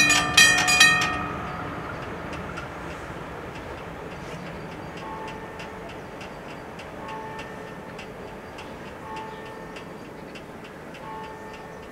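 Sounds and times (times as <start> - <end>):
level-crossing warning bells: 0.0 - 11.9.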